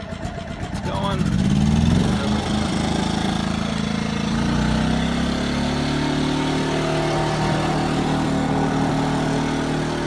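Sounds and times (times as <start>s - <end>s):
generator running: 0.0s - 10.0s.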